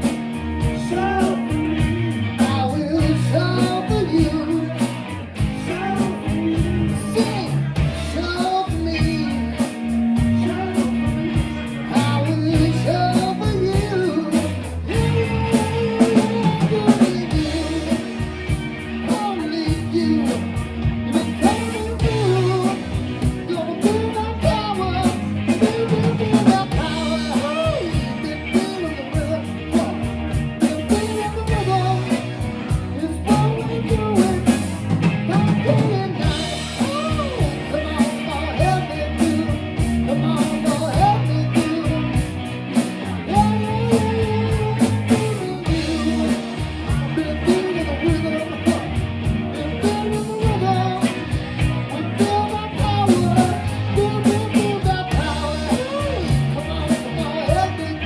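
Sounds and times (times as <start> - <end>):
lead singer singing: 0.0 - 58.0
rock band playing: 0.0 - 58.0.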